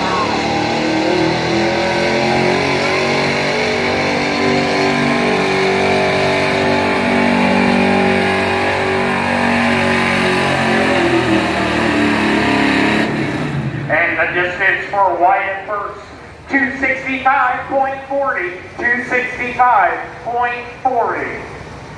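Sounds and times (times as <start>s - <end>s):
truck engine revving hard: 0.0s - 21.9s.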